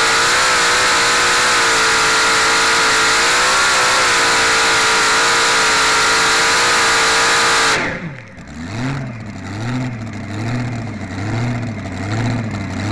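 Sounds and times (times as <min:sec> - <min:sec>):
racing engine revving and idling: 0:00.0 - 0:12.9.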